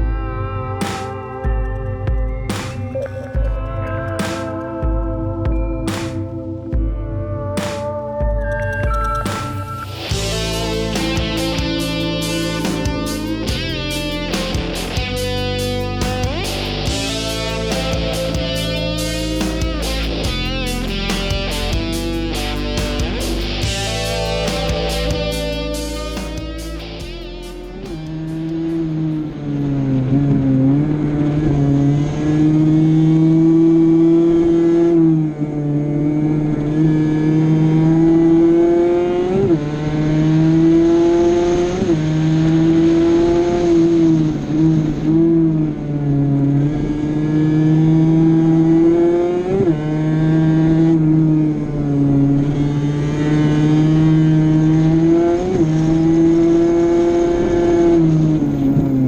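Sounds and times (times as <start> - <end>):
two-stroke motorcycle engine revving: 10.1 - 59.0.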